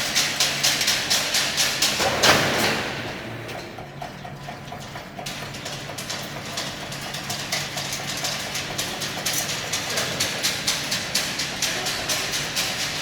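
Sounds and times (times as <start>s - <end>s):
fast mechanical clacking: 0.0s - 13.0s.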